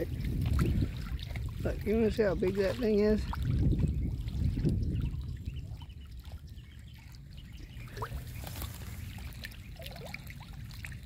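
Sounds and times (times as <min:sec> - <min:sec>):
water trickling and lapping: 0:00.0 - 0:11.0.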